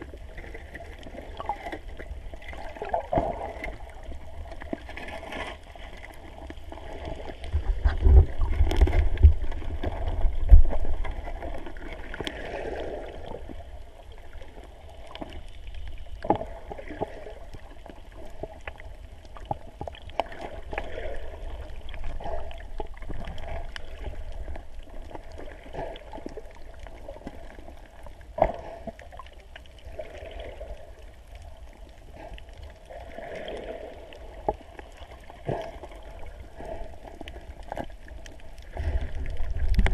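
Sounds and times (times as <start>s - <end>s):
low underwater rumbling: 0.0s - 39.9s
water sloshing underwater: 0.0s - 39.9s.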